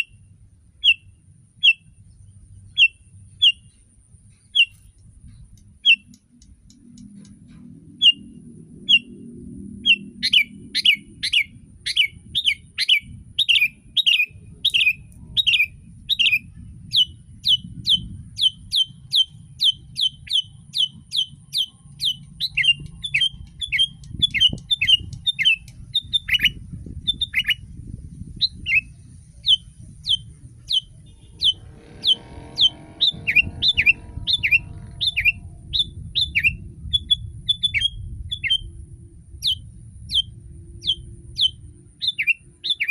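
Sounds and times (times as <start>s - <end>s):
bulbul calling: 0.8s - 7.3s, 7.9s - 27.7s, 28.4s - 38.8s, 39.4s - 42.9s.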